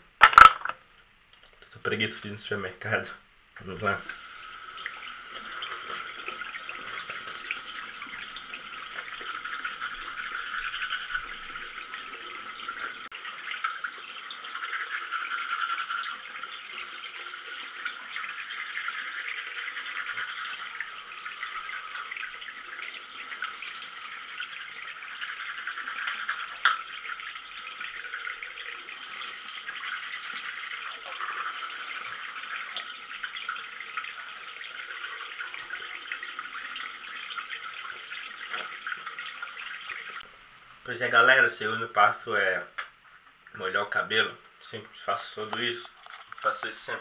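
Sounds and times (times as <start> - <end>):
running water: 1.4 - 47.0.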